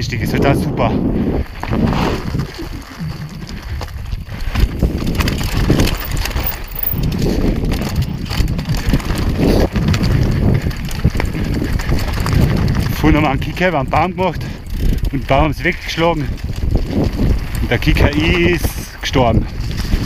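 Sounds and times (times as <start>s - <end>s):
bike rattling over bumps: 0.0s - 20.0s
wind rumbling on microphone: 0.0s - 20.0s
tyres crunching over gravel: 1.4s - 20.0s.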